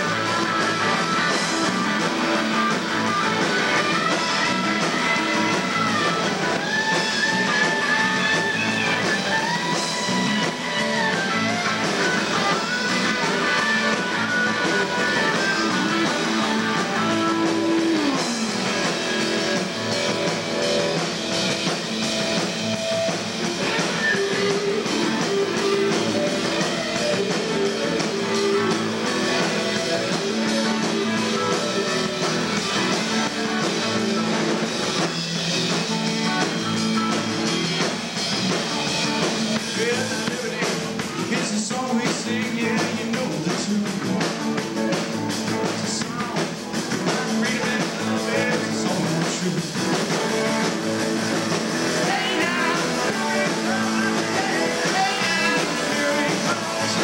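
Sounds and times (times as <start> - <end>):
drum kit: 0.0 - 57.0
electric bass: 0.0 - 57.0
electric guitars: 0.0 - 57.0.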